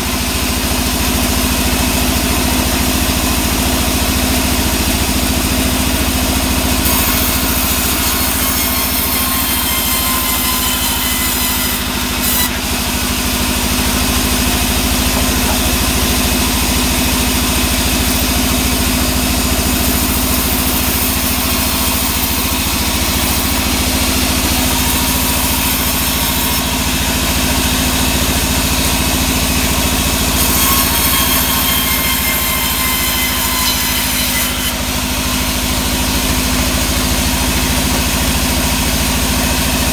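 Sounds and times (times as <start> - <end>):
band saw cutting plank: 0.0 - 39.9.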